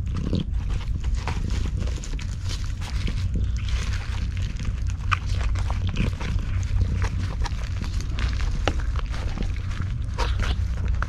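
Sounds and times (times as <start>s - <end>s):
cats chewing and licking: 0.0s - 11.0s
low rumble: 0.0s - 11.0s.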